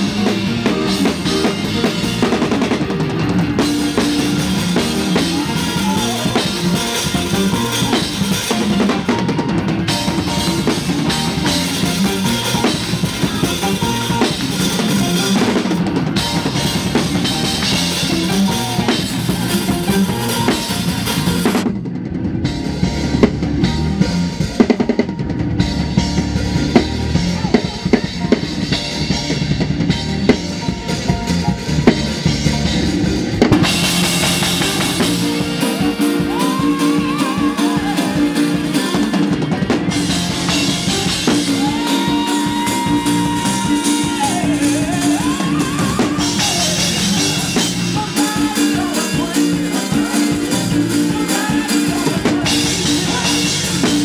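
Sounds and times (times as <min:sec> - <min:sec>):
held melodic instrument line: 0:00.0 - 0:21.6, 0:22.4 - 0:54.0
drum kit played fast: 0:00.0 - 0:54.0.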